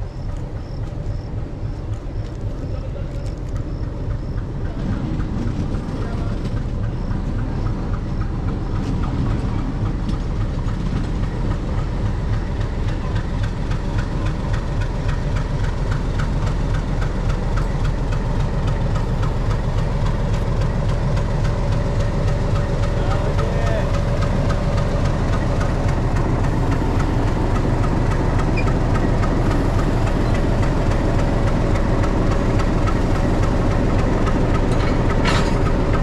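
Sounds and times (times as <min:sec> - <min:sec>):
diesel locomotive engine rumble: 0:00.0 - 0:36.0.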